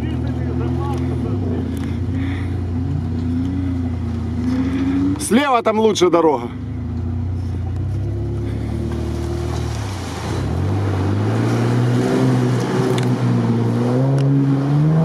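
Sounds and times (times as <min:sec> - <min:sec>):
off-road vehicle engine: 0:00.0 - 0:15.0.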